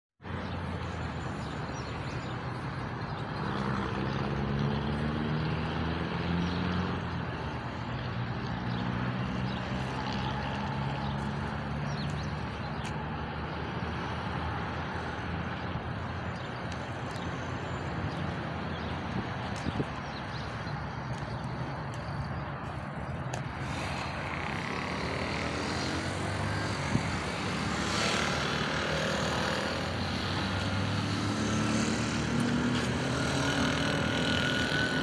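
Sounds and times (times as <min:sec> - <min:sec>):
outdoor background noise: 0:00.2 - 0:35.0.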